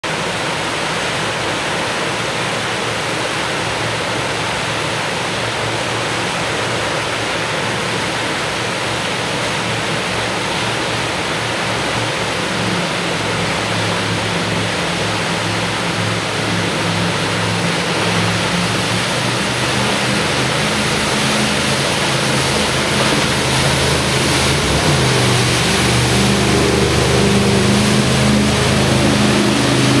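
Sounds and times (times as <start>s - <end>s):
jet boat engines: 0.0s - 30.0s
whitewater rapids rushing: 0.0s - 30.0s.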